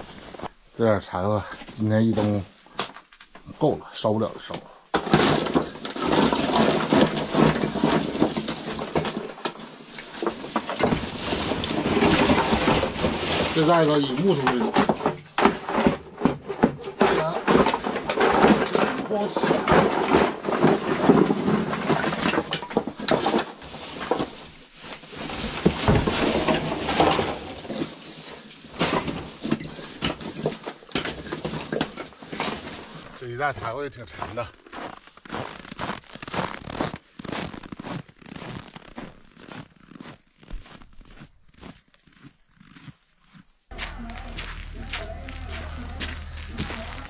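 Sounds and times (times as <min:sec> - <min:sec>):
sticks rustling and scraping: 0:04.9 - 0:42.8, 0:43.7 - 0:47.0.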